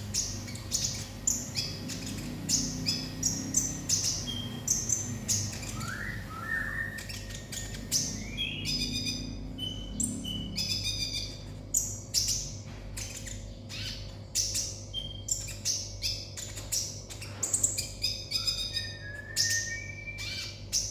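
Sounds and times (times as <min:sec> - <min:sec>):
bird singing fast chirps: 0:00.0 - 0:20.9.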